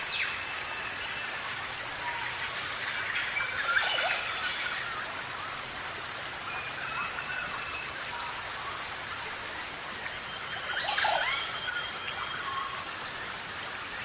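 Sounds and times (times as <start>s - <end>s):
steady rain-like hiss: 0.0s - 14.0s.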